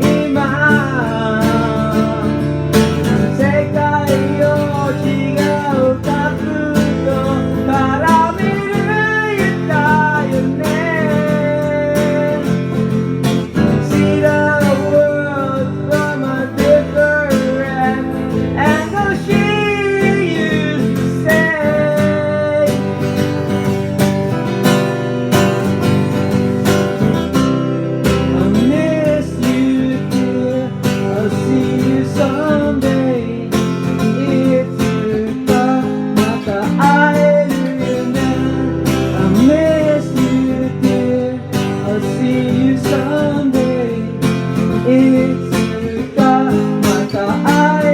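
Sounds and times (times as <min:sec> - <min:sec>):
acoustic guitar music: 0:00.0 - 0:47.9.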